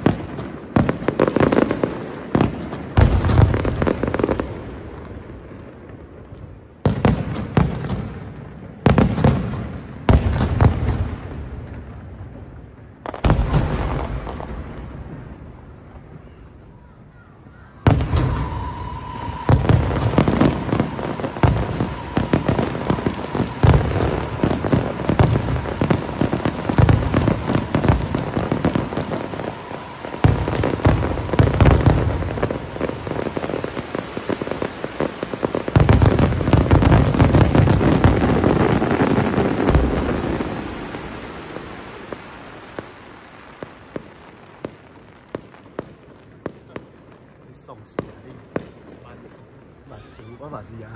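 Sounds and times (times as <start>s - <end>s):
fireworks crackling: 0.0s - 50.9s
fireworks shells booming: 0.0s - 50.9s.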